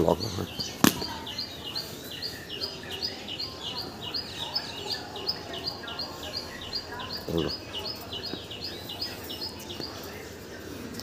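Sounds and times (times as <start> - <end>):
bird chirping: 0.0 - 10.3.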